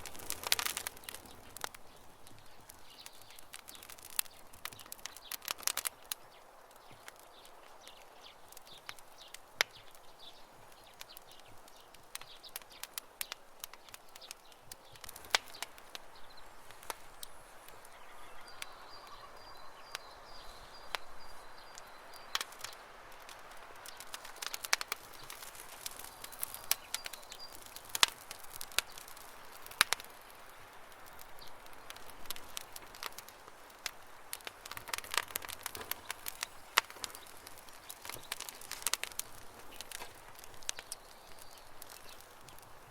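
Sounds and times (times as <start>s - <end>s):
campfire crackling: 0.0s - 42.9s
faint birds chirping: 0.0s - 42.9s.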